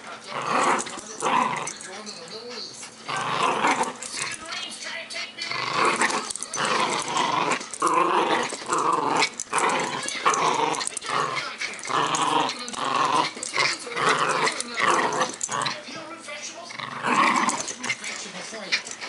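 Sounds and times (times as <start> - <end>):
puppy growling: 0.0 - 4.6, 5.2 - 19.0.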